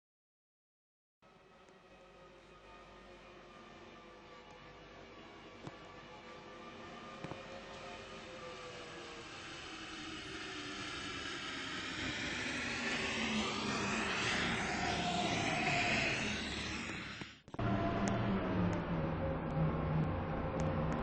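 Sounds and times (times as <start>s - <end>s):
metro train approaching: 1.3s - 18.7s.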